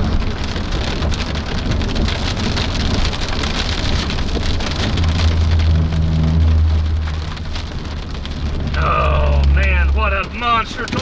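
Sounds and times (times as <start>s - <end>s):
engine and road noise hum: 0.0s - 11.0s
heavy rain on vehicle roof: 0.0s - 11.0s.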